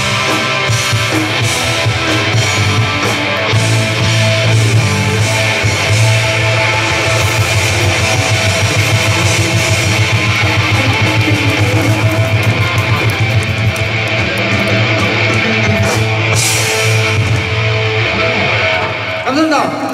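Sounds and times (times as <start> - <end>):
live rock band playing: 0.0 - 19.9.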